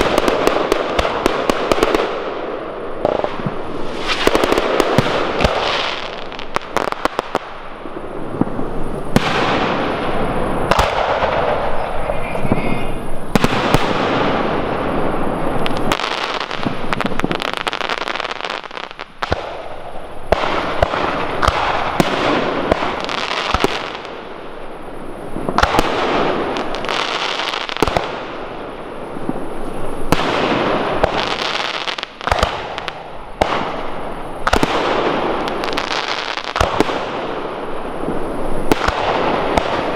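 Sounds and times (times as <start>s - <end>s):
firework bangs: 0.0s - 39.9s
fireworks crackling hiss: 0.0s - 39.9s.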